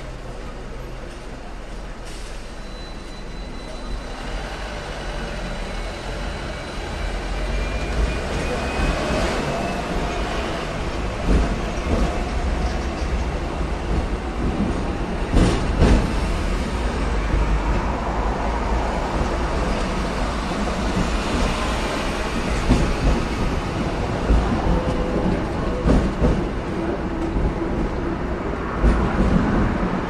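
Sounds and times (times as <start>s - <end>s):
tram rumbling on tracks: 0.0s - 30.0s.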